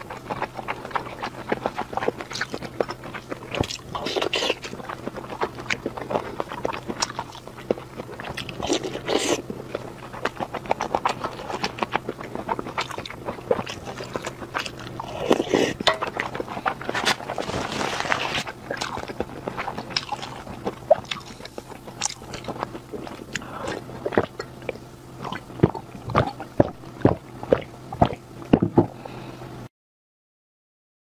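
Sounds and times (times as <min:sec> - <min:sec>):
person chewing food: 0:00.0 - 0:29.5.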